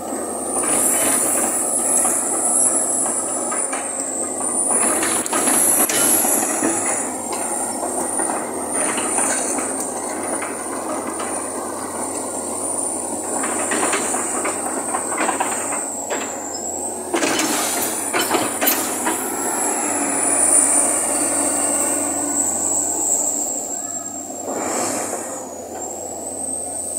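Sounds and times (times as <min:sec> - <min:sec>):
excavator engine and hydraulics: 0:00.0 - 0:26.9
track links clanking and squealing: 0:00.0 - 0:26.9.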